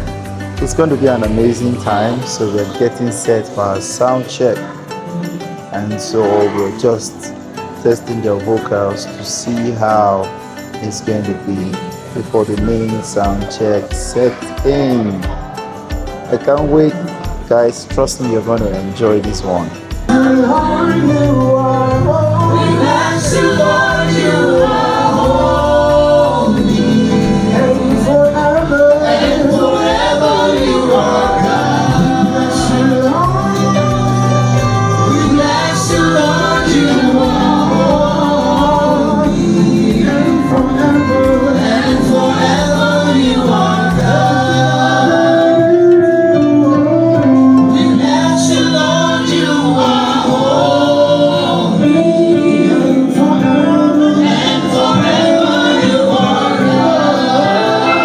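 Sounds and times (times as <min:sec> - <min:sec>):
choir singing gospel: 0:00.0 - 0:58.0.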